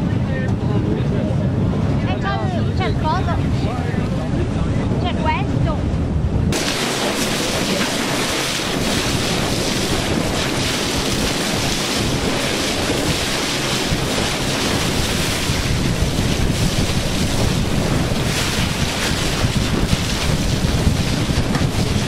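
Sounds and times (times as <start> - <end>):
wind buffeting microphone: 0.0 - 22.0
sea water splashing along hull: 1.5 - 22.0.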